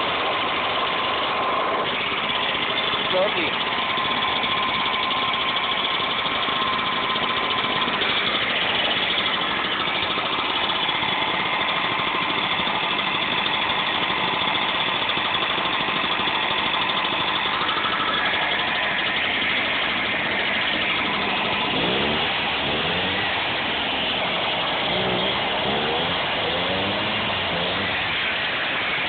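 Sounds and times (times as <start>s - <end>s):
leaf blower engine running: 0.0s - 29.0s.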